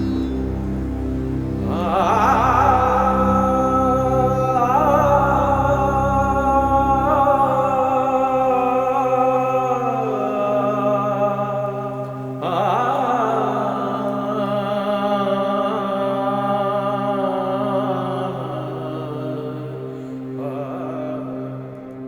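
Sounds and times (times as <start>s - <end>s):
slow orchestral film music: 0.0s - 22.0s
wavering sung melody: 0.0s - 22.0s.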